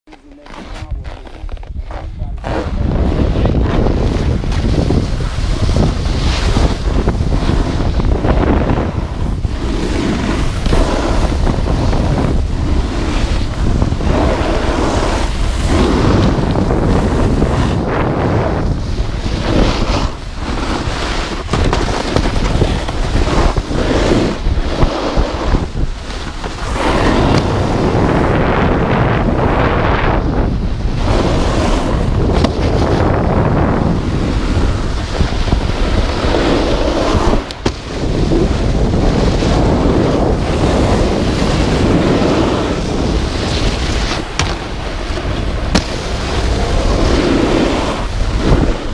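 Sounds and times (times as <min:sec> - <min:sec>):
wind rush on microphone: 0:00.5 - 0:48.9
board edges hissing over snow: 0:02.5 - 0:48.9.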